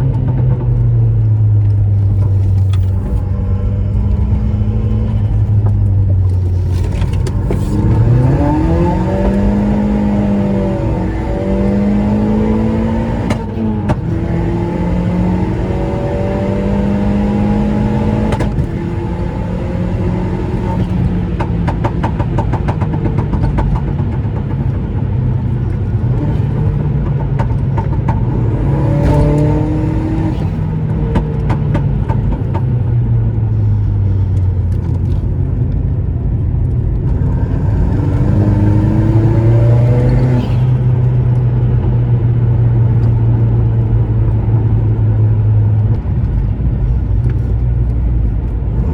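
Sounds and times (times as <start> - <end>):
car engine revving: 0.0 - 48.9.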